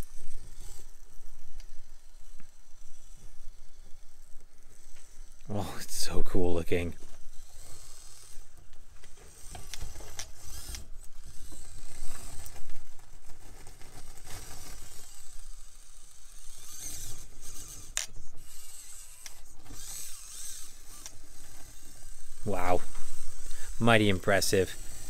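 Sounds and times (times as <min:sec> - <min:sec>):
small electric motor whining: 0:00.0 - 0:25.0.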